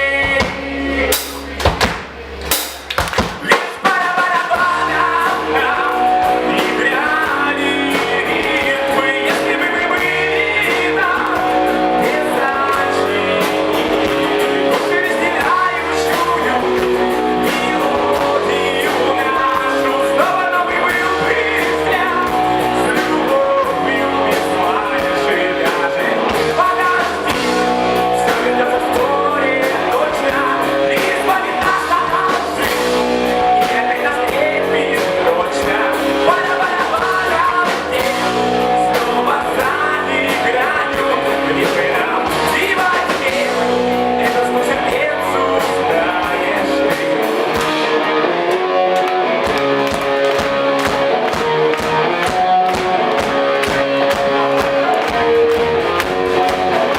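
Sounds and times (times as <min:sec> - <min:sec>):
drums: 0:00.0 - 0:56.9
guitars: 0:00.0 - 0:56.9
person singing: 0:03.4 - 0:56.9.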